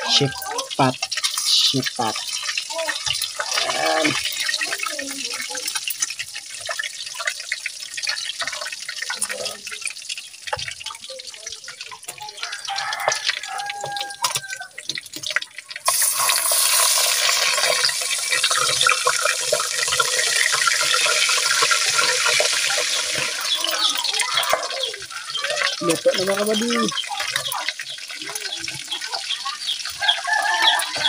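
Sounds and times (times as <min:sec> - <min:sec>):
fish sizzling in hot oil: 0:00.0 - 0:31.0
oil crackling and spattering: 0:00.0 - 0:31.0.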